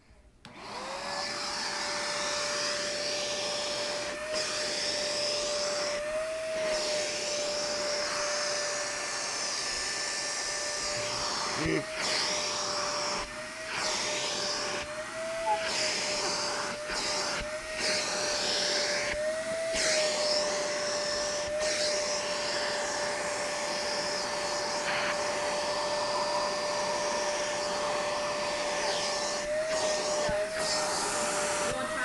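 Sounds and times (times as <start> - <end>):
vacuum cleaner running: 0.5 - 32.0.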